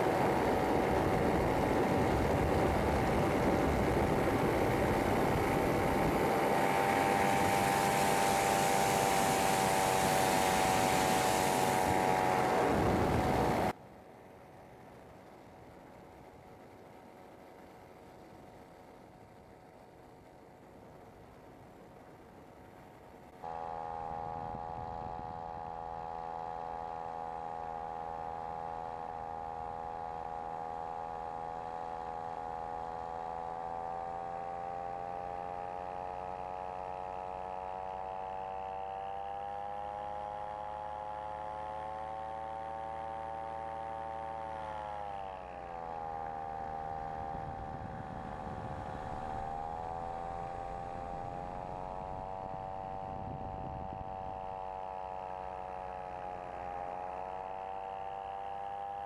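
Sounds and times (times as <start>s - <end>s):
microlight engine and propeller: 0.0s - 59.0s.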